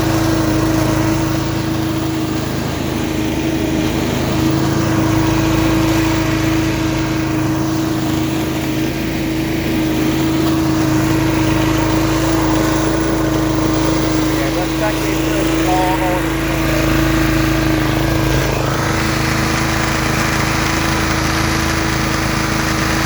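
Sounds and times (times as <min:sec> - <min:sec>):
leaf vacuum engine humming: 0:00.0 - 0:23.0.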